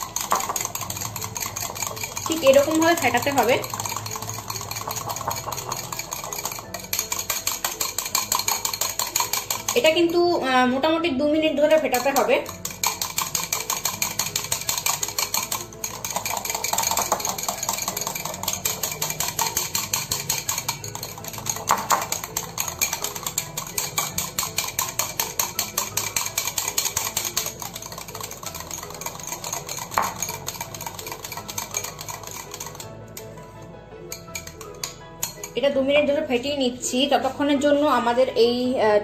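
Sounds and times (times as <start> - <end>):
whisk beating in glass bowl: 0.0 - 10.6, 11.4 - 37.9.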